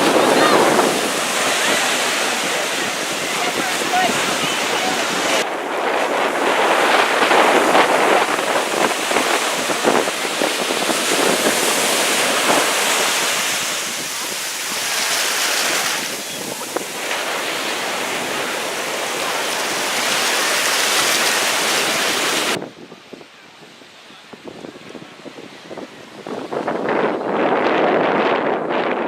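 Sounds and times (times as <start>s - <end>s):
ocean surf washing up beach: 0.0s - 29.0s
wind on microphone: 0.0s - 29.0s.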